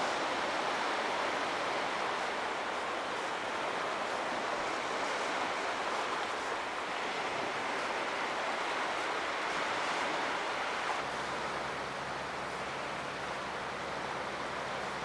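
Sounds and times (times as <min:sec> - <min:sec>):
sea waves washing in: 0:00.0 - 0:15.0.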